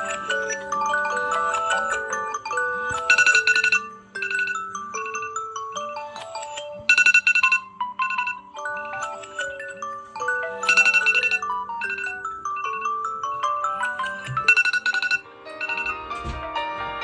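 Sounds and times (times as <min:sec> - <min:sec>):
bright chime chords: 0:00.0 - 0:16.4
phone ringtones and alarm tones: 0:00.0 - 0:16.4.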